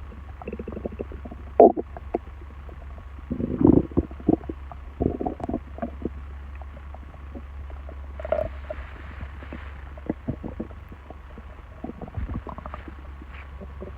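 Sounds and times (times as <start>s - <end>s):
steady low hum: 0.0s - 13.9s
stomach gurgling: 0.0s - 13.9s.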